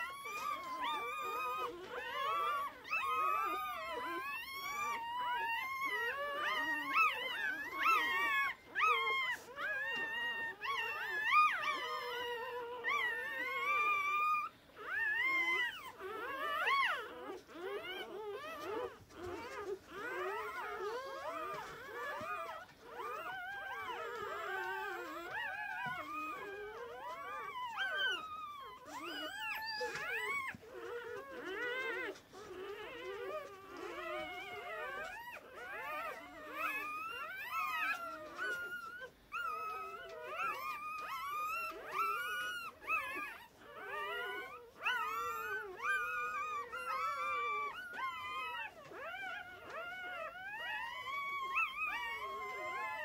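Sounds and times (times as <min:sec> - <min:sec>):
puppies squeaking and whining: 0:00.0 - 0:53.0.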